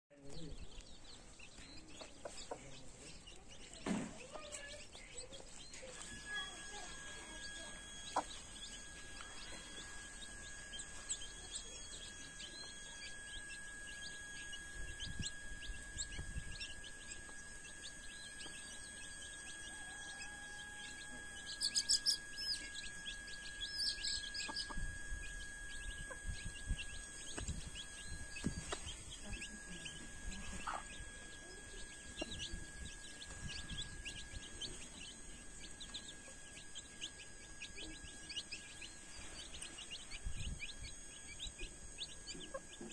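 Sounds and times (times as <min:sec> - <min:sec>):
chicks peeping: 0:00.1 - 0:42.9
faint steady high tone: 0:00.1 - 0:42.9
hen clucking: 0:01.4 - 0:42.9.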